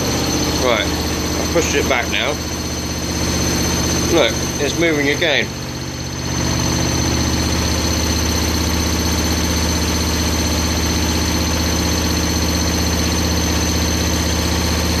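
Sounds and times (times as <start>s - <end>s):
washing machine spin drone: 0.0s - 15.0s.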